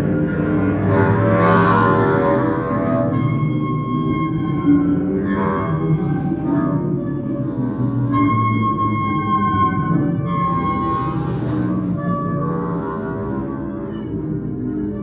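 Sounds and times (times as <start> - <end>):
wavering held tones: 2.3 - 7.4, 8.0 - 14.9.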